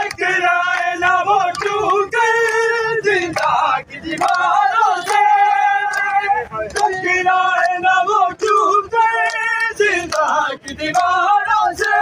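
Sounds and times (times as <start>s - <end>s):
men chanting: 0.0s - 12.0s
rhythmic chest-beating slaps: 0.0s - 12.0s.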